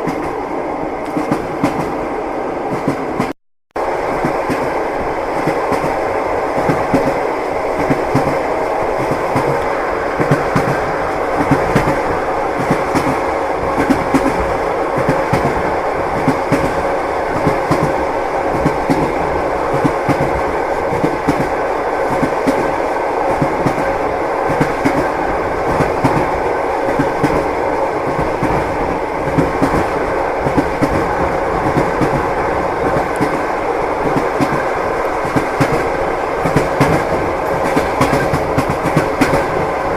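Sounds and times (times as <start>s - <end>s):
train wheels clattering on rails: 1.0s - 2.0s, 4.1s - 39.9s.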